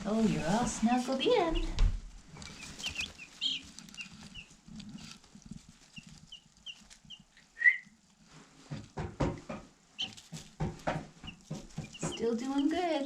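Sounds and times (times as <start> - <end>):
low knocks or rustles: 0.0 - 7.2, 8.2 - 13.0
chicks peeping: 0.1 - 13.0.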